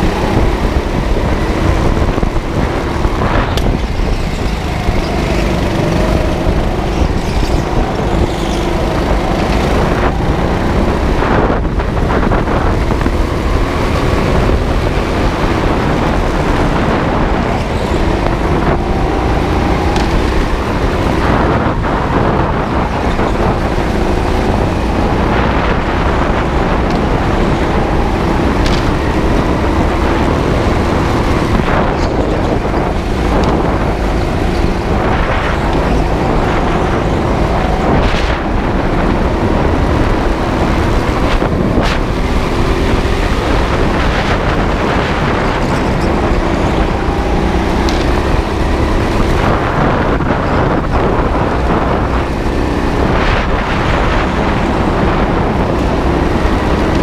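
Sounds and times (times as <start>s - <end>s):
go-kart motor: 0.0s - 57.0s
wind buffeting microphone: 0.0s - 57.0s.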